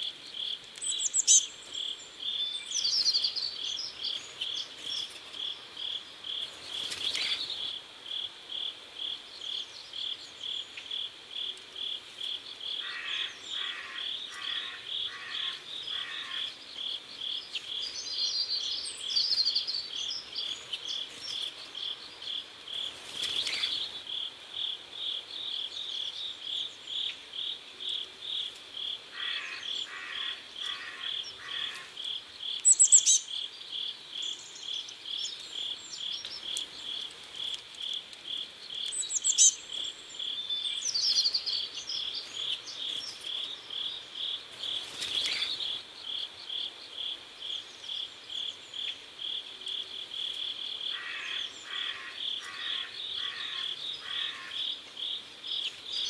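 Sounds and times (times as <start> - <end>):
lower rasping insect call: 0.0 - 56.0
crickets chirping: 0.2 - 56.0.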